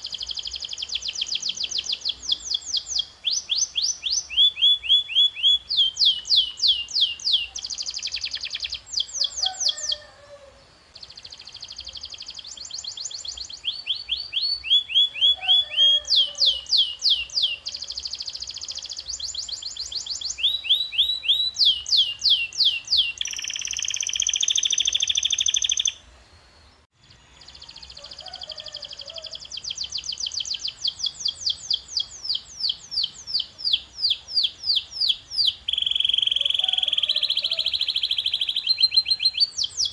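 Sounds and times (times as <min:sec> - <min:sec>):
canary singing: 0:00.0 - 0:26.0, 0:27.0 - 0:39.9.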